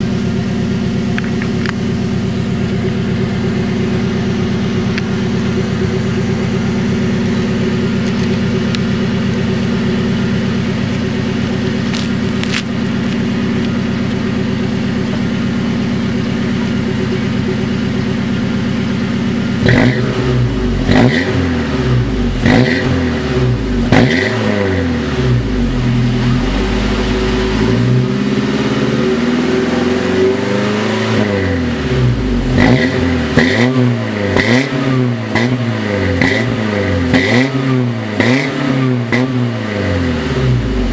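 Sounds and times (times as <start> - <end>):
engine idling and revving: 0.0 - 40.9.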